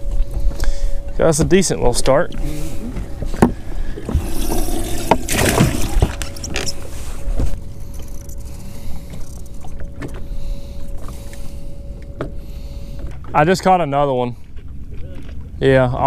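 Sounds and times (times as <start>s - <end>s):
faint steady hum: 0.0s - 16.0s
low wind rumble: 0.0s - 16.0s.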